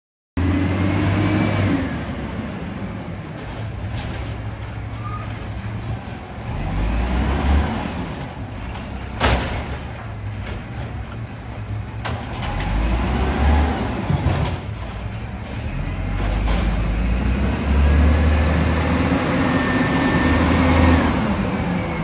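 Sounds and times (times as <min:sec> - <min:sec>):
garbage truck diesel engine rumble: 0:00.4 - 0:22.0.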